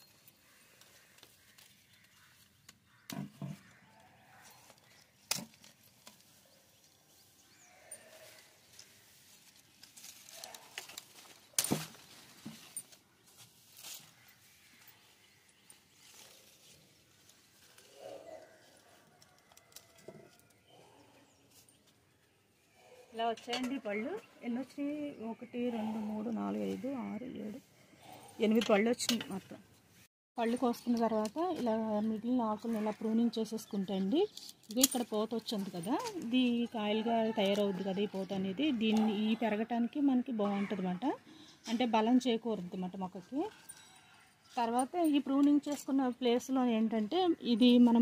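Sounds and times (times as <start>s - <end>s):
faint outdoor background: 0.0s - 48.0s.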